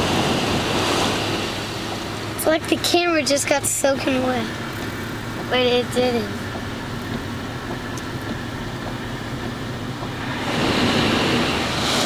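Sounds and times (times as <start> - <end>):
truck engine drone: 0.0 - 12.0
water splashing: 0.0 - 12.0.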